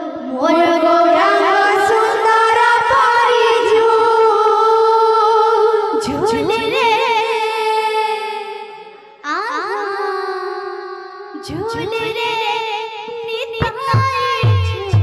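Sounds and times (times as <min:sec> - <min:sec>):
girl singing into a microphone: 0:00.0 - 0:15.0.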